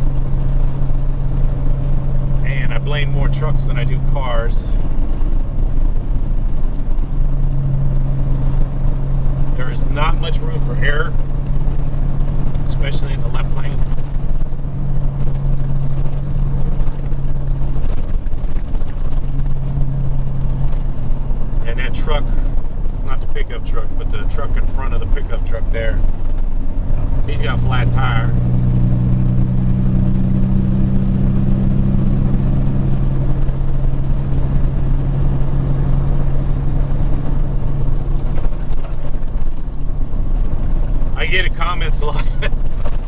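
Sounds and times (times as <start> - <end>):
truck engine and road noise: 0.0 - 43.0.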